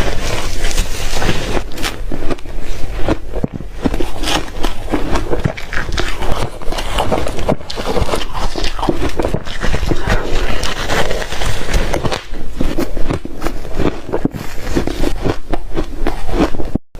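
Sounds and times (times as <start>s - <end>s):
ice being chewed: 0.0s - 16.8s.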